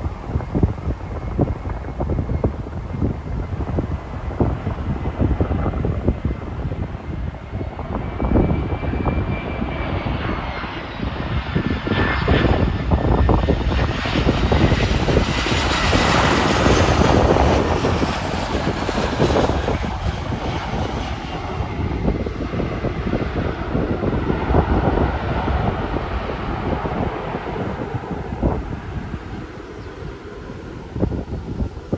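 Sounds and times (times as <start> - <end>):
jet engine whine: 0.0 - 31.9
jet rushing noise: 0.0 - 31.9
wind buffeting microphone: 0.0 - 31.9.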